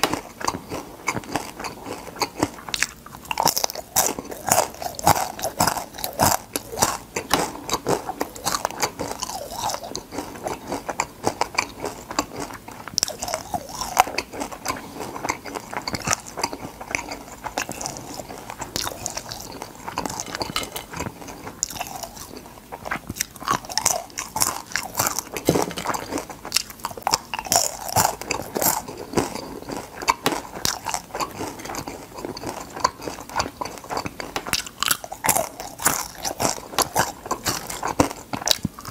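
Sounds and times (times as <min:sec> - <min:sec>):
crunching crispy fried shell: 0:00.0 - 0:38.9.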